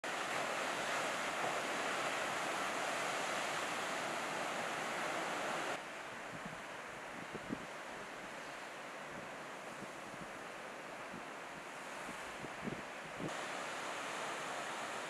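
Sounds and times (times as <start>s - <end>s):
ocean surf: 0.0s - 15.0s
wind: 0.0s - 15.0s.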